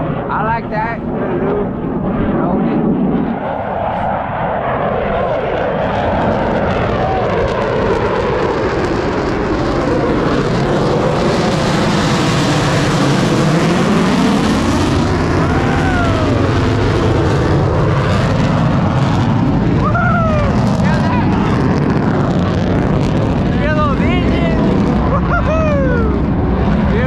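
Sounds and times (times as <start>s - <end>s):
aircraft engines roaring overhead: 0.0s - 27.0s.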